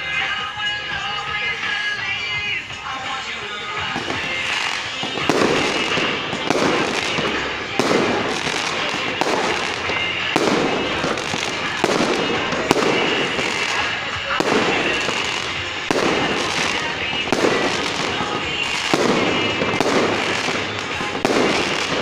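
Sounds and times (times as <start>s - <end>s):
aerial fireworks bangs: 3.7s - 22.0s.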